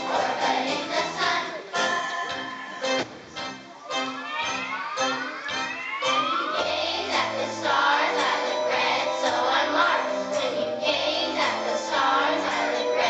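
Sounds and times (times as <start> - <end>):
children's choir singing: 0.0 - 3.0, 3.9 - 13.0
instrumental accompaniment: 0.0 - 13.0.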